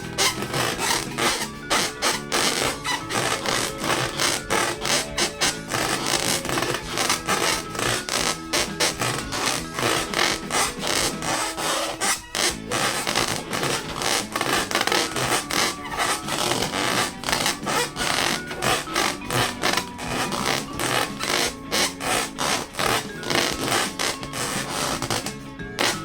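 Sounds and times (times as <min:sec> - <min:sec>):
rubber balloons rubbed squeaking: 0:00.0 - 0:26.0.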